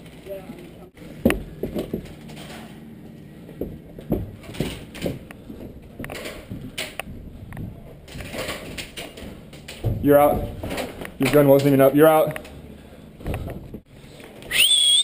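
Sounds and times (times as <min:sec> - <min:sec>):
footsteps and gear thuds: 0:01.1 - 0:12.6, 0:13.2 - 0:13.9.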